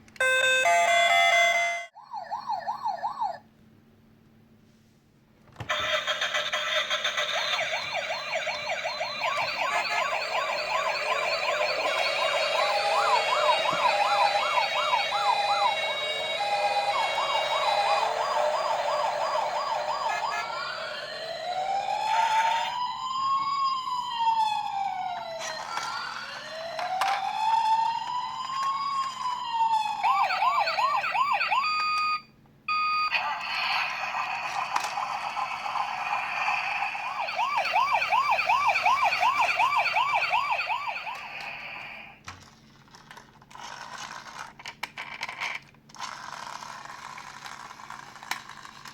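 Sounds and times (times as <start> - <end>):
toy electronic siren: 0.2 - 3.4, 5.7 - 42.2.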